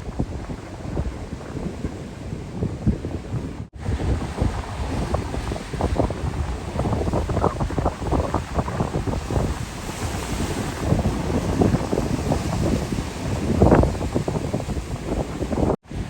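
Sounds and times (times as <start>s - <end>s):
ocean surf rushing: 0.0s - 16.0s
wind buffeting microphone: 0.0s - 16.0s.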